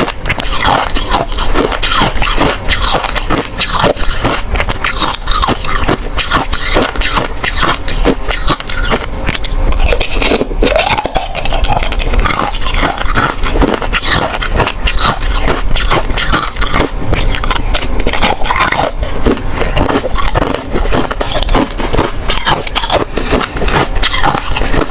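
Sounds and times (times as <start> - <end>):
ice cubes crunching between teeth: 0.0 - 24.9.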